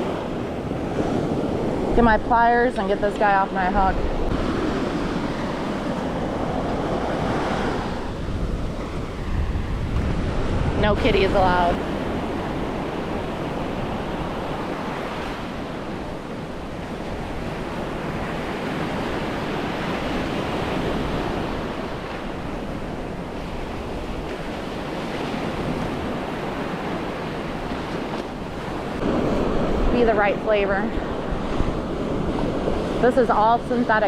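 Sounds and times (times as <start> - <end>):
small waves washing onto sand: 0.0 - 34.0
wind rumbling on microphone: 0.0 - 34.0.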